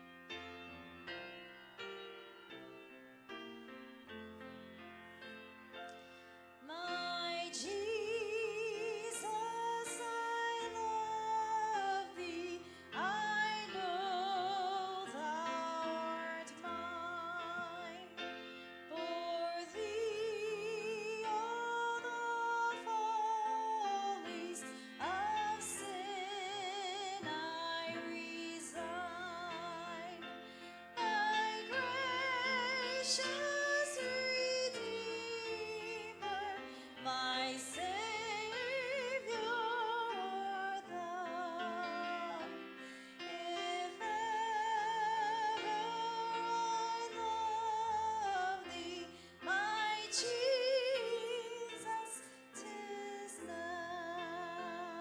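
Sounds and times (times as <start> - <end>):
woman singing with vibrato: 6.7 - 18.2, 18.9 - 30.3, 31.0 - 42.5, 43.2 - 55.0.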